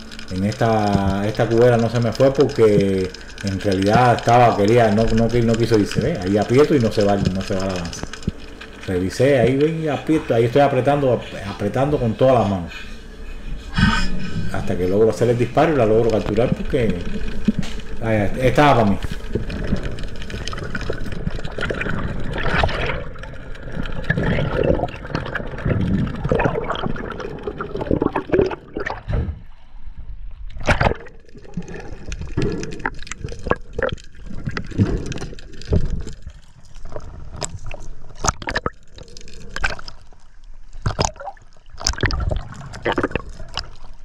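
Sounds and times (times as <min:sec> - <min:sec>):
sea water gurgling and splashing: 0:00.0 - 0:44.0.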